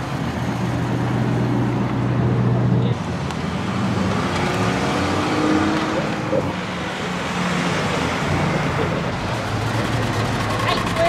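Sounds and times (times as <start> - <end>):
cars driving slowly past: 0.0 - 11.0.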